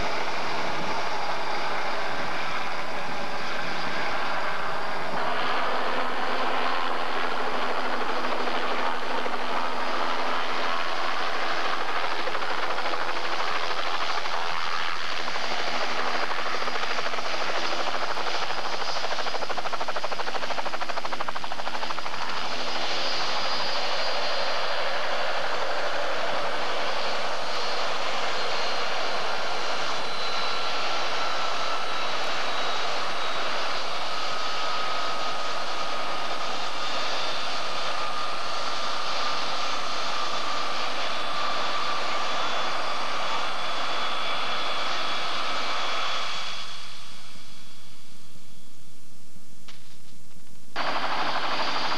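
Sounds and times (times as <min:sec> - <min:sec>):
engine and rotor rush: 0:00.0 - 0:48.7, 0:50.8 - 0:51.9
helicopter turbine whine: 0:00.0 - 0:49.0, 0:50.7 - 0:51.9.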